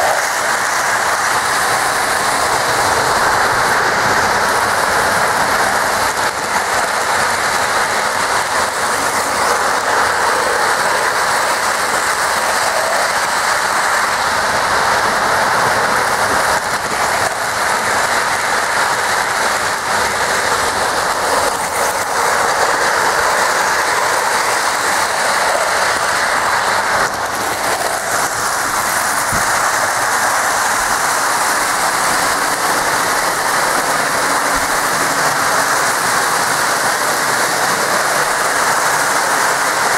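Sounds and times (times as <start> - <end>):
model train wheels rumbling: 0.0 - 39.9.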